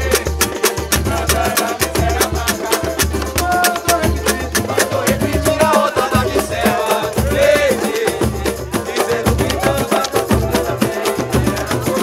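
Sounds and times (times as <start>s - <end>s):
hand drums: 0.0s - 12.0s
people singing: 0.0s - 12.0s.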